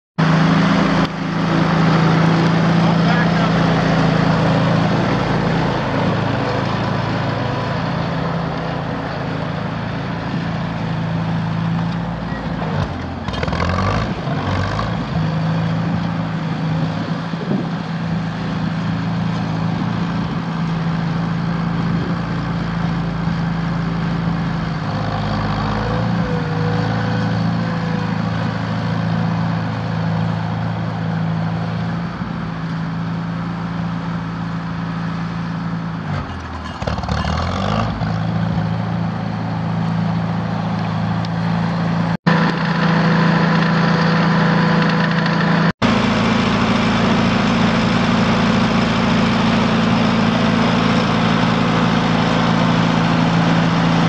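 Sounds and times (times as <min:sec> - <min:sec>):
tractor engine running: 0:00.2 - 0:54.0.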